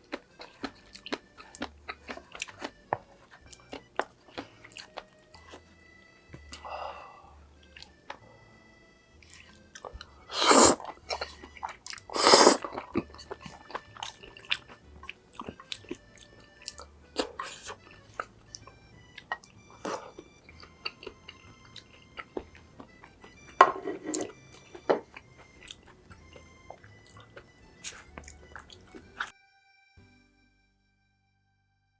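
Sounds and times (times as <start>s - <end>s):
food crunches and slurps: 0.0s - 5.6s, 9.2s - 29.3s
close chewing with wet clicks: 0.0s - 6.7s, 7.6s - 29.3s.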